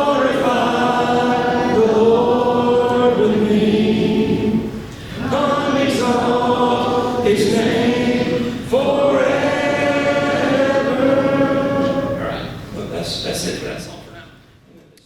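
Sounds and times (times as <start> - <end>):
congregation singing a hymn: 0.0 - 12.9.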